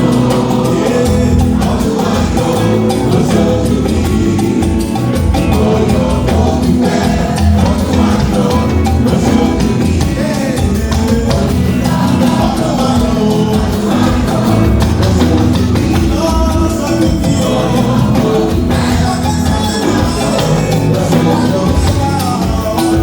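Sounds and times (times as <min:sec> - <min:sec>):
bass line: 0:00.0 - 0:23.0
choir singing: 0:00.0 - 0:23.0
drums and percussion: 0:00.0 - 0:23.0.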